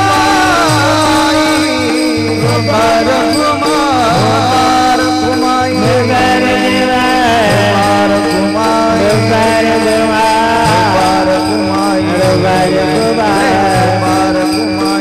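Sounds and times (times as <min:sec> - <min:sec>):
jingling: 0:00.0 - 0:15.0
wavering melody over drone: 0:00.0 - 0:15.0.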